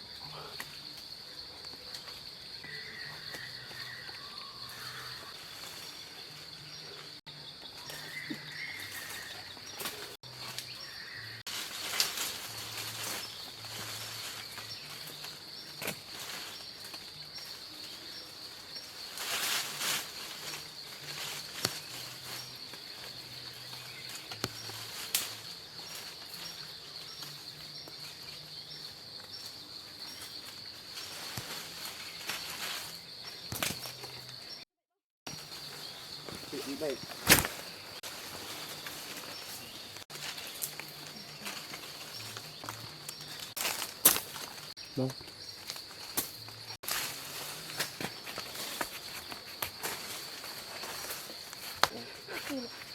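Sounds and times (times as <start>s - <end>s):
insects droning: 0.0s - 34.7s, 35.3s - 52.9s.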